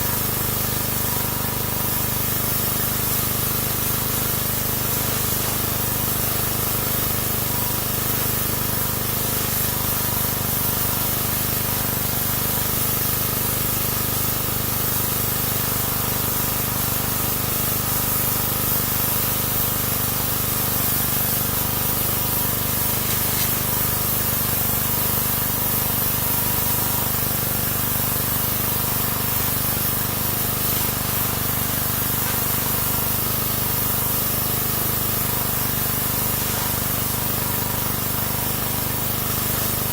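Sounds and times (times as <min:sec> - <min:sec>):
pressure washer jet hissing: 0:00.0 - 0:39.9
pressure washer machine humming: 0:00.0 - 0:39.9.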